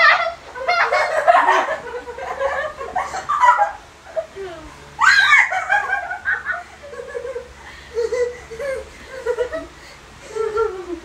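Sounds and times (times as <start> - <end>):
people laughing and giggling: 0.5 - 11.0.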